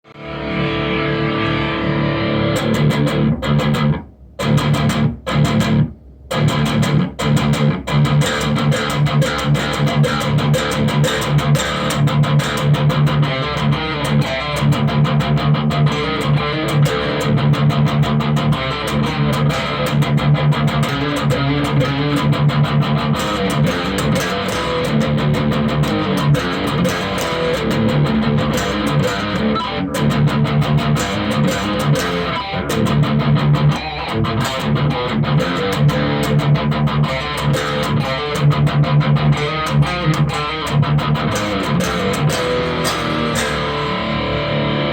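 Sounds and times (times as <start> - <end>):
heavy metal electric guitar riffing: 0.0 - 44.9.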